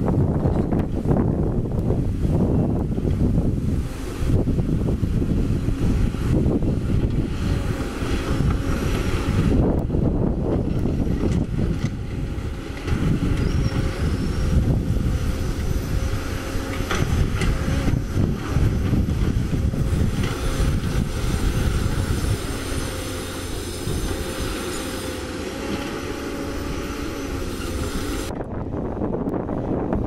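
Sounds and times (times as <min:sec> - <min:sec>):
hydraulic whine: 0:00.0 - 0:29.6
diesel engine under load: 0:00.0 - 0:30.0.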